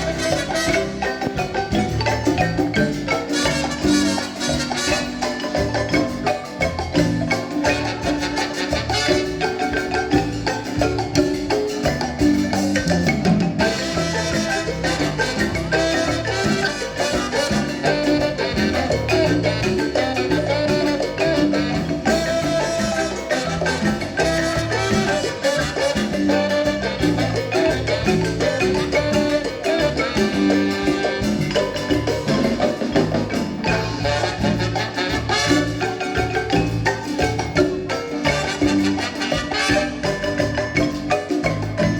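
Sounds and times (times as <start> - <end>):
marimba dance tune: 0.0 - 41.9.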